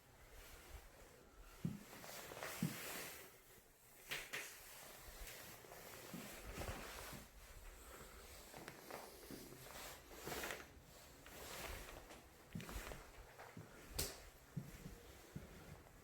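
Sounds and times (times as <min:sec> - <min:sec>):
faint footsteps and scuffs: 0:00.3 - 0:16.0.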